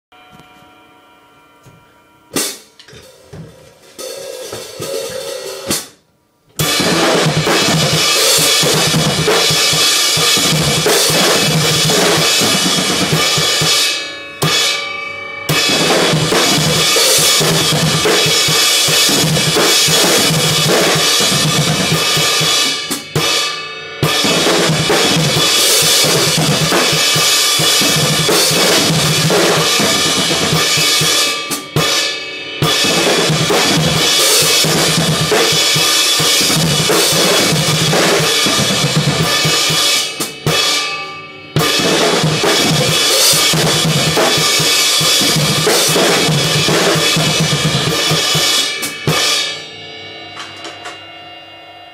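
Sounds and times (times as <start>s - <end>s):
drum kit playing: 1.6s - 51.1s
crashing cymbals: 6.6s - 51.9s.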